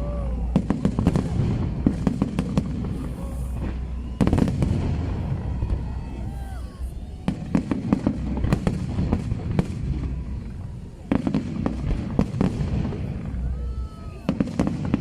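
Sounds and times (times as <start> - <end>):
fireworks cracks and bangs: 0.0 - 15.0.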